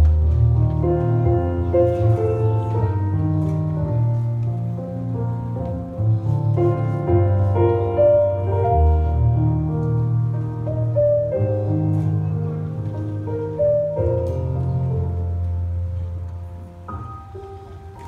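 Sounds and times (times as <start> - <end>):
slow keyboard processional music: 0.0 - 18.0.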